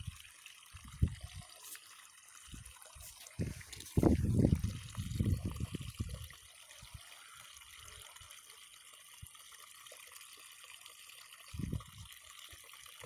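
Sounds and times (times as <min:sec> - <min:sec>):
canal water trickling: 0:00.0 - 0:13.0.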